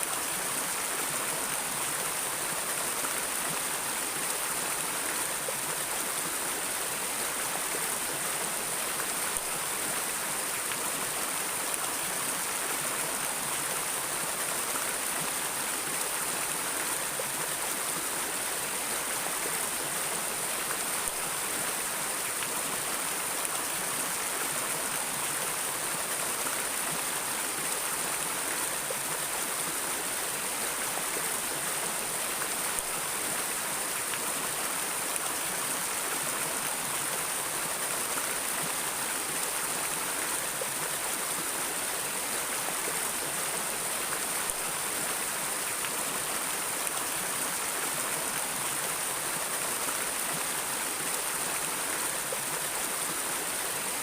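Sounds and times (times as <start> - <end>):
stream water flowing and splashing: 0.0 - 54.0.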